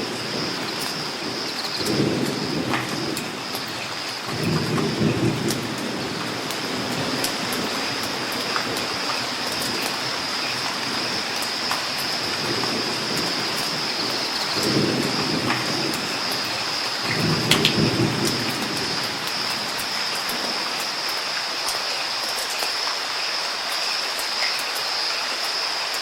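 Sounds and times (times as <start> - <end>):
low rumble of thunder: 0.0 - 20.9
steady rain with drops ticking: 0.0 - 26.0.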